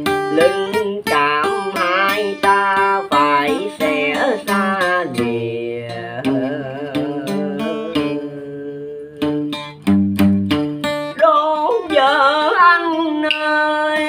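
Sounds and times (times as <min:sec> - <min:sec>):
man singing: 0:00.0 - 0:09.8, 0:11.1 - 0:14.0
acoustic guitar plucked: 0:00.0 - 0:14.0.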